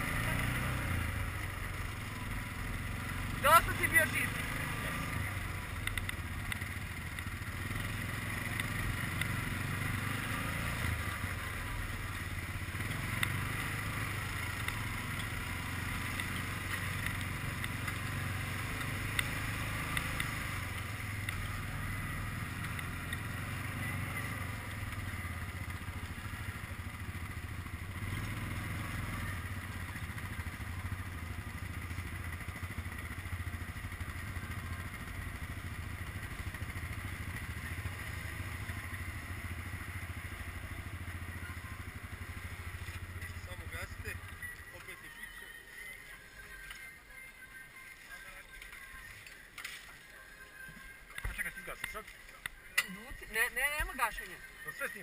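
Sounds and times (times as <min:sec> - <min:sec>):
quad bike engine running: 0:00.0 - 0:45.1, 0:51.1 - 0:55.0.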